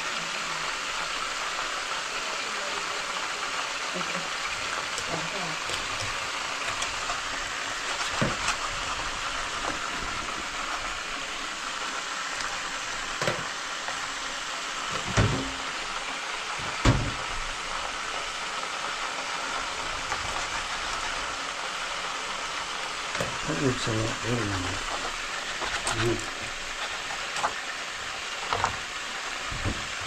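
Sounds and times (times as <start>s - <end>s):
hot oil sizzling: 0.0s - 30.0s.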